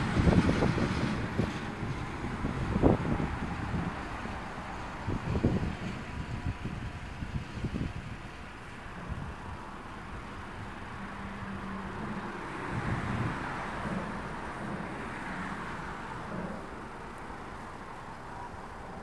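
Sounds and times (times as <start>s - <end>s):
distant train rumbling: 0.0s - 19.0s.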